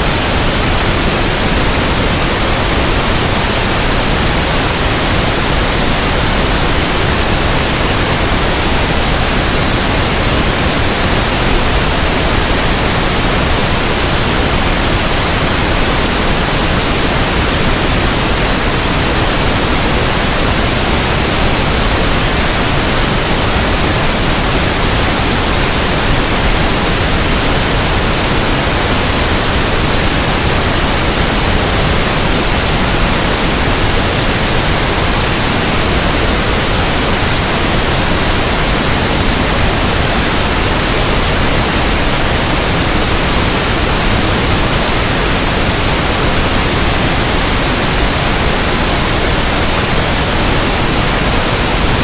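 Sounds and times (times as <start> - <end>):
pink noise hiss: 0.0 - 52.0.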